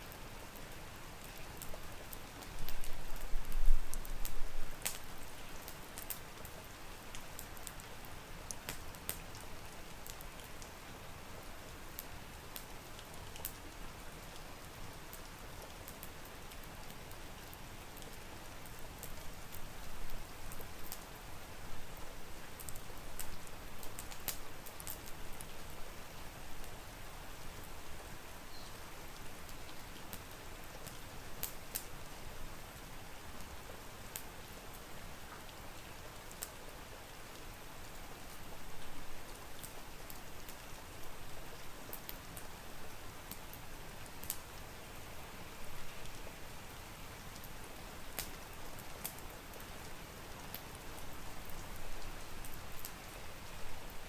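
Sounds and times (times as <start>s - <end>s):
steady rain: 0.0s - 54.0s
wood fire crackling: 0.0s - 54.0s.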